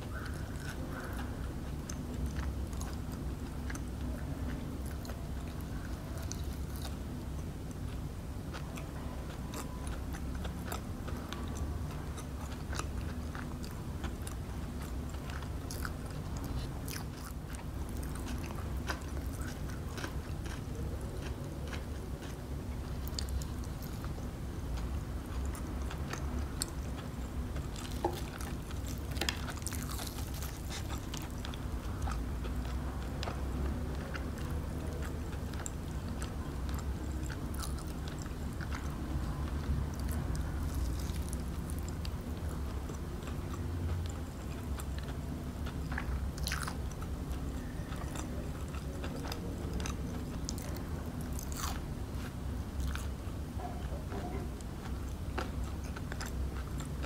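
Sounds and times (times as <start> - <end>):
chewing crispy fried chicken: 0.0 - 57.0.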